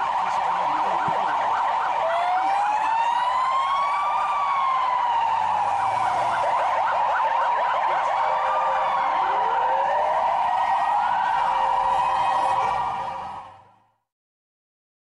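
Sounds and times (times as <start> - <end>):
siren wailing: 0.0 - 13.8
siren yelping: 0.0 - 13.8
steady high siren tone: 0.0 - 13.8.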